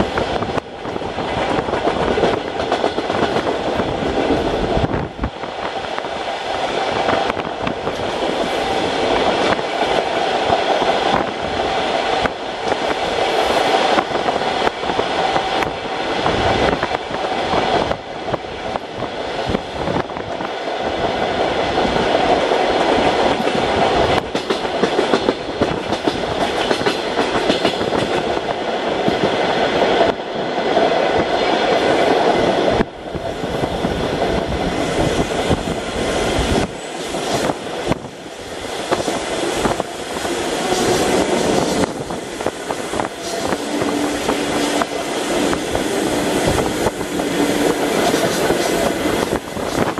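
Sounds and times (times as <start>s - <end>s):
train clicks and clatter: 0.0s - 49.9s
train wheels rumbling on rails: 0.0s - 49.9s.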